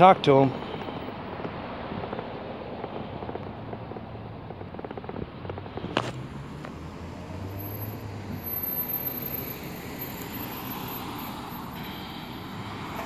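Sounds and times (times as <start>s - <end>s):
passing cars rushing: 0.0s - 13.0s.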